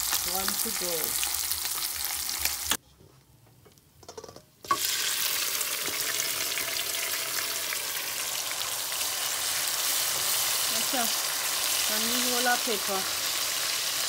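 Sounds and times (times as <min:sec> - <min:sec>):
hot oil sizzling: 0:00.0 - 0:02.8, 0:04.6 - 0:14.0.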